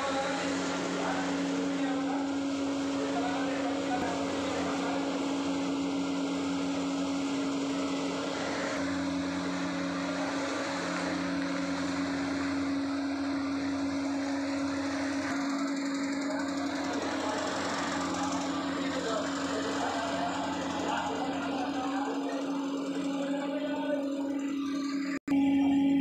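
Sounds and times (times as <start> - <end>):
motor hum: 0.0 - 26.0.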